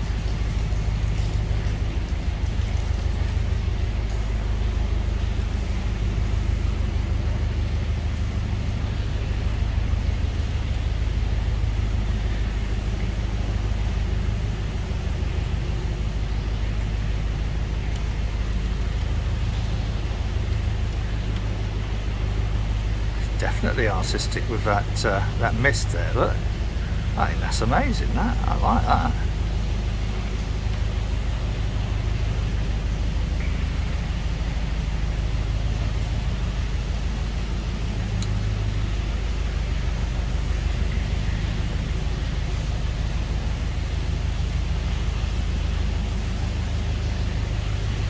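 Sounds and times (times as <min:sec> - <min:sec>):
boat engine humming: 0:00.0 - 0:48.0.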